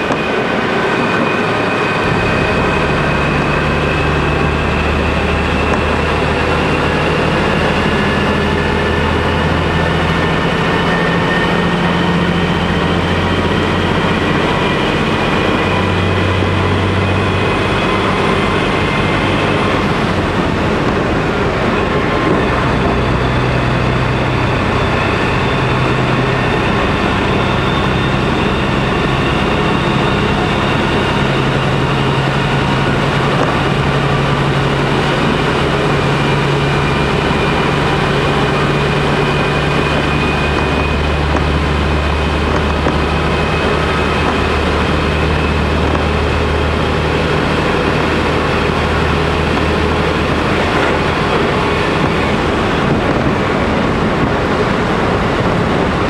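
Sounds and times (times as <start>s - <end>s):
diesel engine low hum: 0.0s - 56.0s
train wheels on rail: 0.0s - 56.0s.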